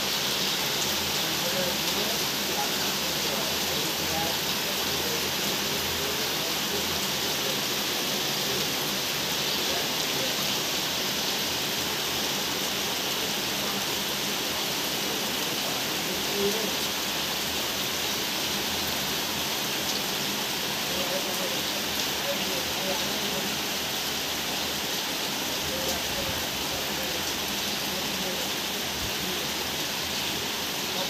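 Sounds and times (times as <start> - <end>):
heavy rain on roofs and street: 0.0 - 31.0.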